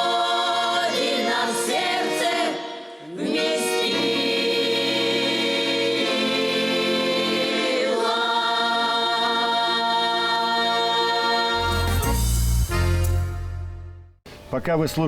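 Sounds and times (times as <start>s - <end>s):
choir singing sustained chords: 0.0s - 13.9s.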